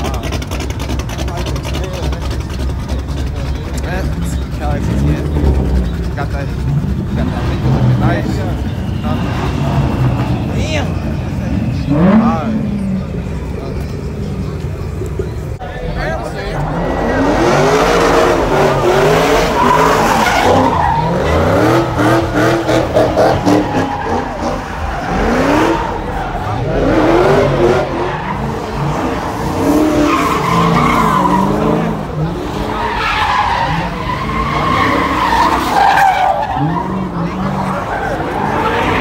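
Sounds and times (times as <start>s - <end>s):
car engines revving: 0.0s - 39.0s
tires squealing: 0.0s - 39.0s.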